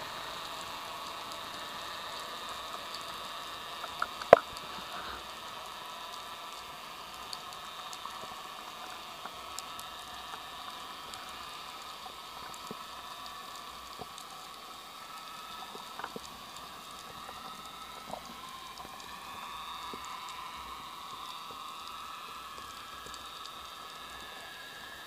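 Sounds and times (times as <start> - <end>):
faint clicks and crackles: 0.0 - 25.0
underwater hiss: 0.0 - 25.0.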